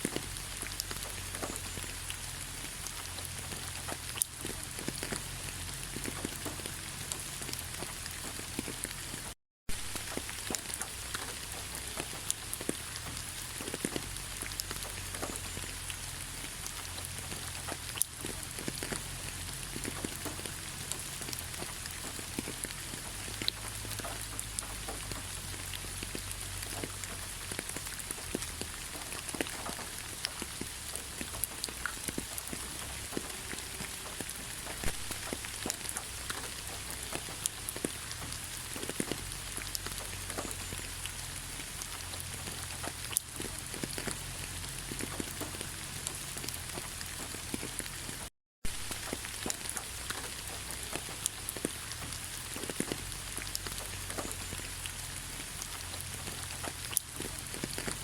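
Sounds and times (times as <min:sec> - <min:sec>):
rain falling in forest: 0:00.0 - 0:58.0
raindrops ticking: 0:00.0 - 0:58.0.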